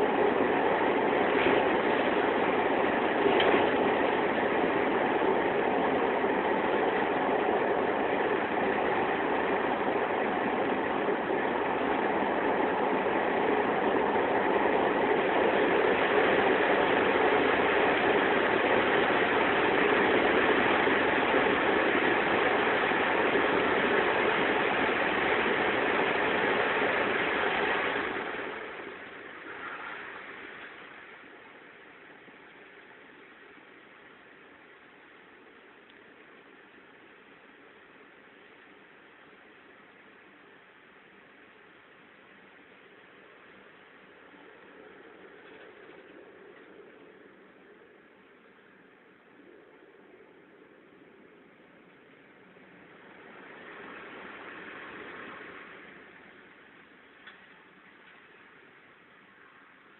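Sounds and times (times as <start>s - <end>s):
train rumbling in a tunnel: 0.0s - 59.9s.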